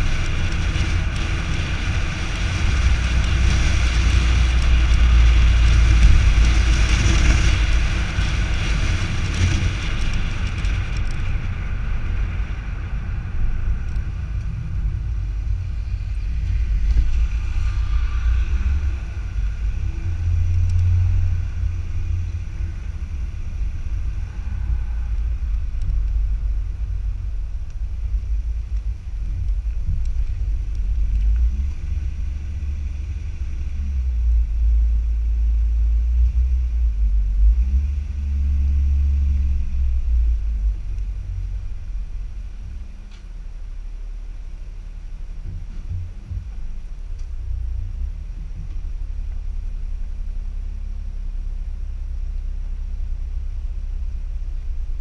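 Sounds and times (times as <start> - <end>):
road and tyre noise: 0.0 - 55.0
wind rumble: 0.0 - 55.0.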